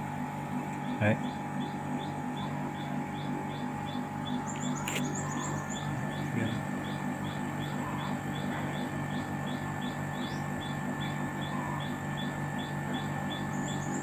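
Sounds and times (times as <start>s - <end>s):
air conditioner unit humming: 0.0s - 14.0s
bird chirping: 0.8s - 14.0s.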